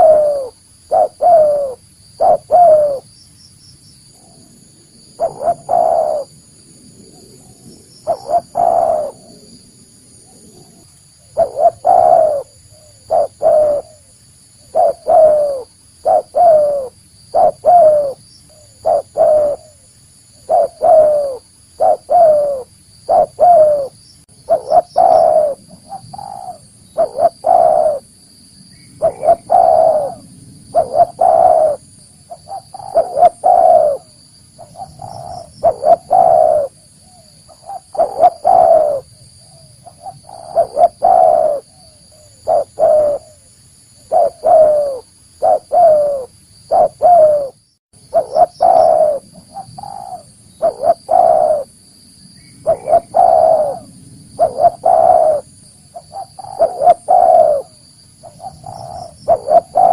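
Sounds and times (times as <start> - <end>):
dove cooing: 0.0 - 3.1, 5.2 - 6.4, 7.1 - 9.6, 10.3 - 19.8, 20.4 - 28.1, 29.0 - 51.7, 52.6 - 59.9.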